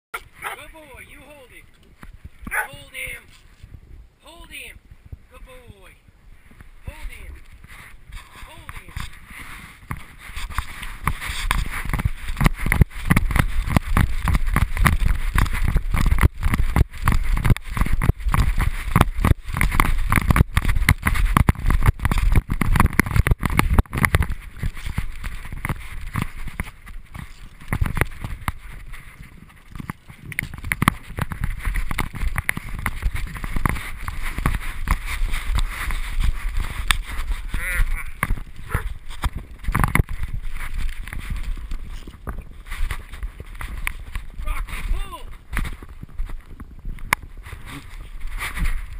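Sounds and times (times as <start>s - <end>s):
wind buffeting camera: 0.2s - 48.9s.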